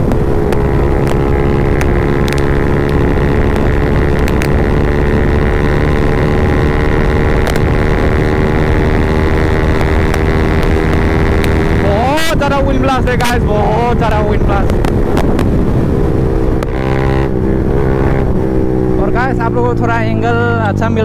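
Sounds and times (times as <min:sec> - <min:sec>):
motorcycle engine exhaust: 0:00.0 - 0:21.0.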